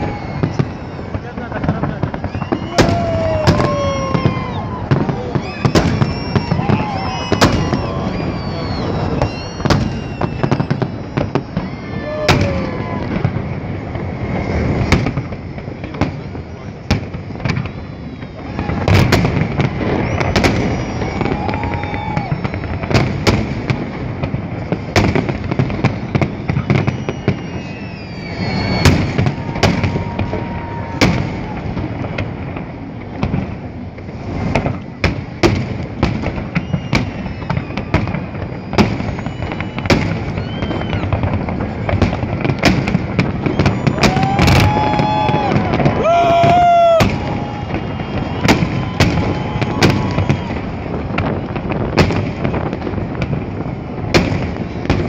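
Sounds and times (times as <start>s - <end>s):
firework bangs: 0.0s - 55.0s
firework crackling: 0.0s - 55.0s
whistling firework tones: 0.0s - 55.0s.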